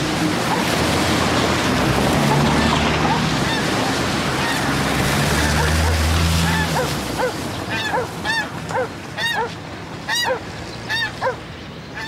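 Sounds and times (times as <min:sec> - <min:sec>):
car engine hum: 0:00.0 - 0:11.7
geese honking: 0:02.2 - 0:12.0.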